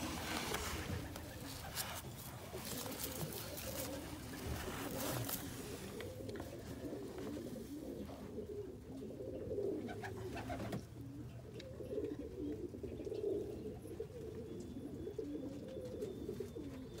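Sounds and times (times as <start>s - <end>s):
pigeon cooing: 0.0s - 17.0s.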